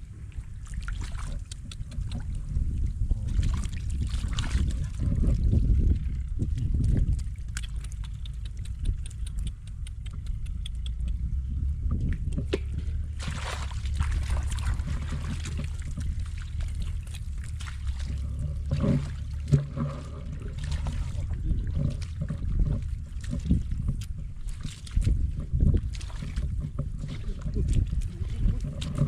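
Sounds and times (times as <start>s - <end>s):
steady low rumble: 0.0s - 29.0s
water sloshing and splashing: 0.0s - 29.0s.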